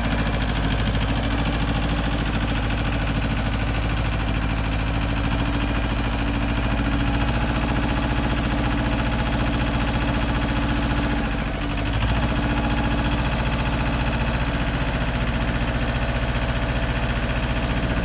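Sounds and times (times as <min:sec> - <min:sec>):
diesel tractor engine running: 0:00.0 - 0:18.0.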